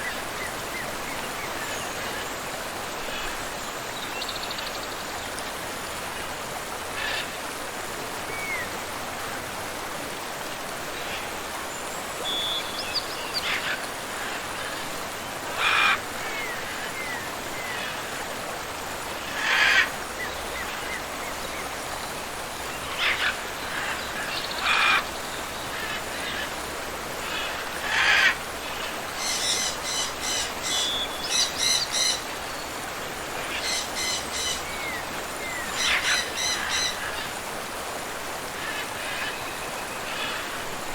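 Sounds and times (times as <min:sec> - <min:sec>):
waterfall and river rushing: 0:00.0 - 0:40.9.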